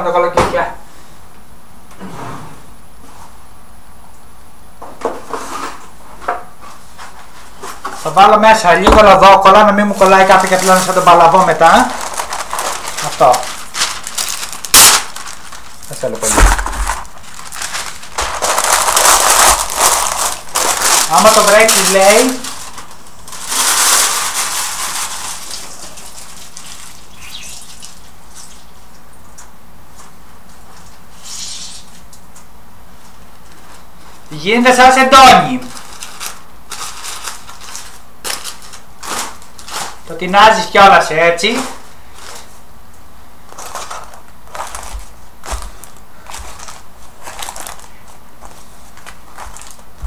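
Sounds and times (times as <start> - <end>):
baking paper handled: 6.5 - 50.0.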